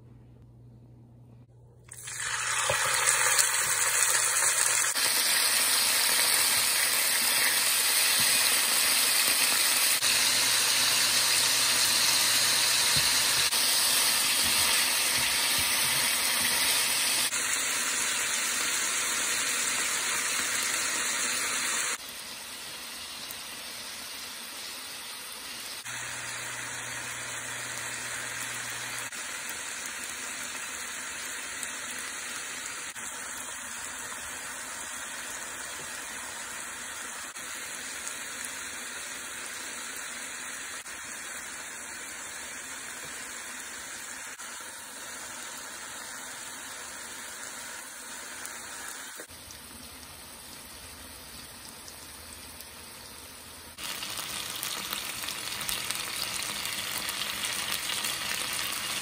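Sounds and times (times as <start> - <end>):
chicken sizzling in hot oil: 1.9 - 59.0.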